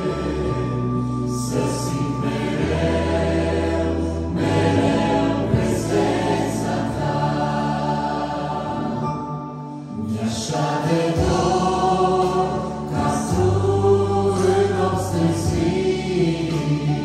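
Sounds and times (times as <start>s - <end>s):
keyboard chords: 0.0s - 17.0s
vocal group singing in harmony: 0.0s - 17.0s.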